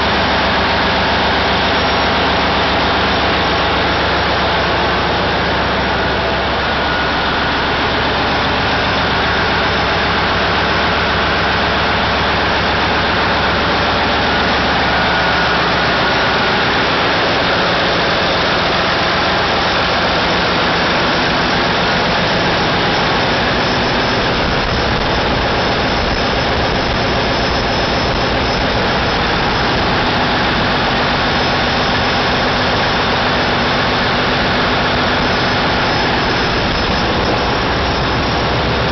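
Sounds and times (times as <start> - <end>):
diesel engines droning: 0.0 - 38.9.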